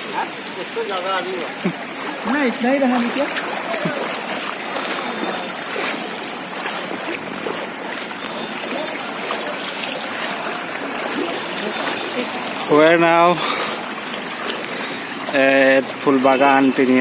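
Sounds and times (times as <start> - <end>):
faint voices: 0.0 - 14.0
floodwater rushing and trickling: 0.0 - 17.0.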